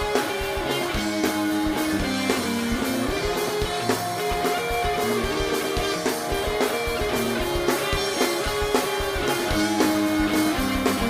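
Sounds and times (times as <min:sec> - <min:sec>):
guitar notes: 0:00.0 - 0:11.0
steady drum beat: 0:00.0 - 0:11.0.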